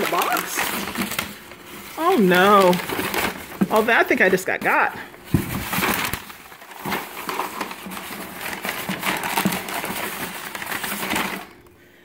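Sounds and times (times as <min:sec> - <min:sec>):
tissue paper rustling and crinkling: 0:00.0 - 0:11.7.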